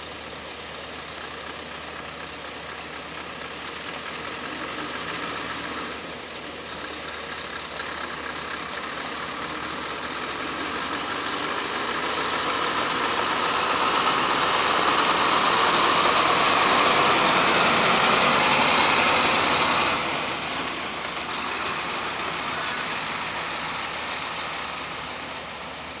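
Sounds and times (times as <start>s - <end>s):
truck diesel engine passing: 0.0s - 26.0s.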